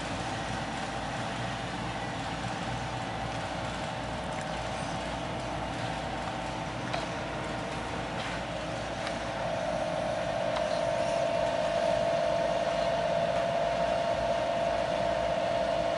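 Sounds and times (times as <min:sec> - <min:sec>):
machine hum with held tone: 0:00.0 - 0:15.9.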